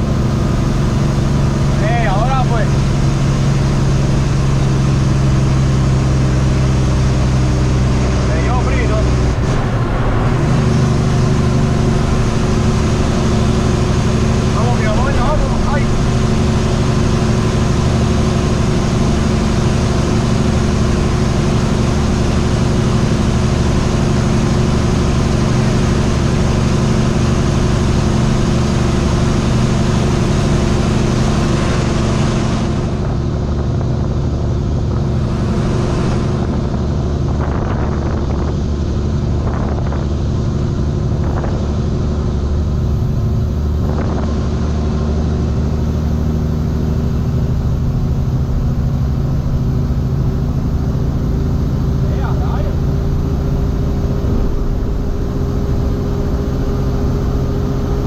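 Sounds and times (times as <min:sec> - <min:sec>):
rushing road noise: 0:00.0 - 0:58.0
truck diesel engine hum: 0:00.0 - 0:58.0.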